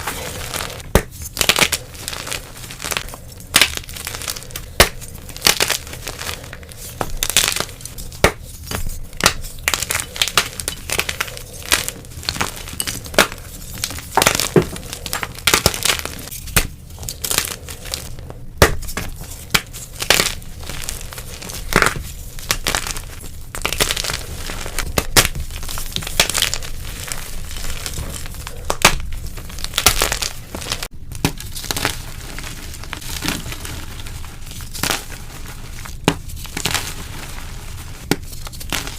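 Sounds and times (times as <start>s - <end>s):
chalk crunching and crackling: 0.0s - 38.9s.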